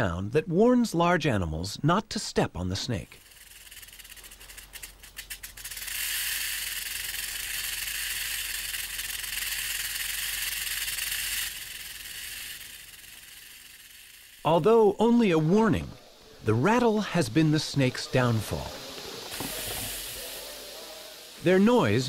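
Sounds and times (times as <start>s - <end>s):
rattlesnake tail rattling: 3.0s - 22.0s.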